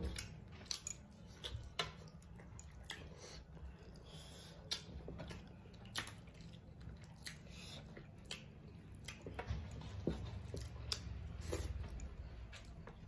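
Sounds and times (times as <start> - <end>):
chewing with wet smacks: 0.0 - 13.0.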